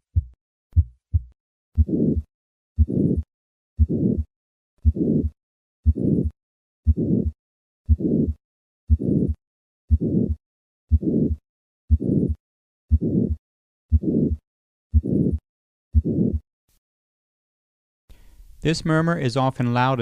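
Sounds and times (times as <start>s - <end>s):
harsh heart murmur: 0.0s - 16.4s
heartbeat: 0.0s - 16.4s.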